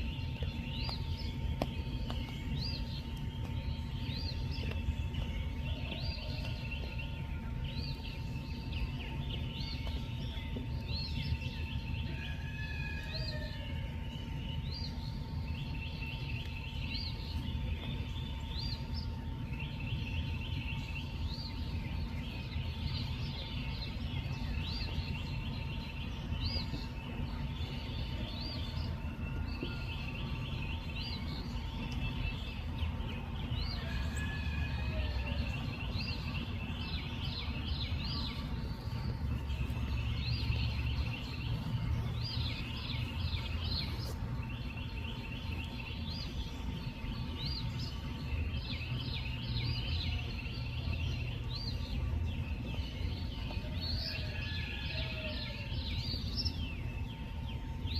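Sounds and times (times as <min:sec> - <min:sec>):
steady low rumble: 0:00.0 - 0:54.6.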